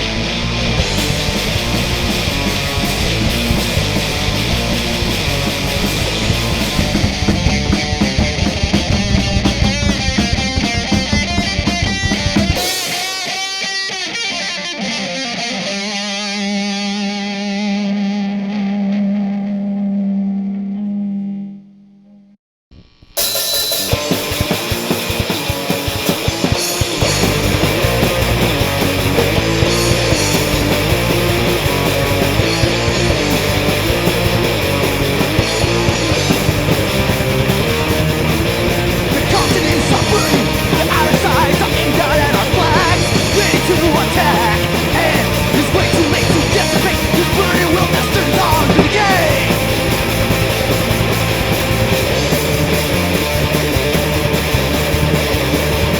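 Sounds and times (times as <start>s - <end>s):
punk rock song: 0.0s - 17.8s, 23.2s - 55.9s.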